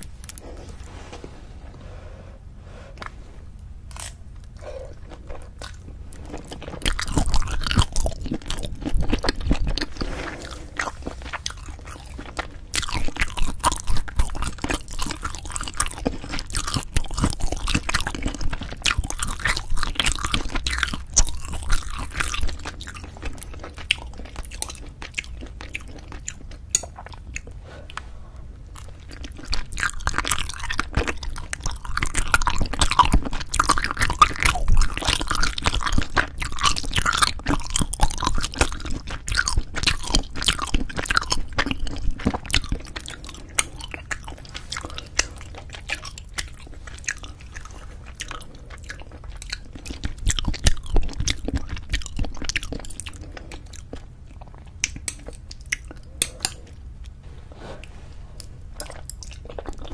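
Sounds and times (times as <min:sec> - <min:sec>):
wet crunchy chewing: 0:03.9 - 0:57.2, 0:57.8 - 0:59.9.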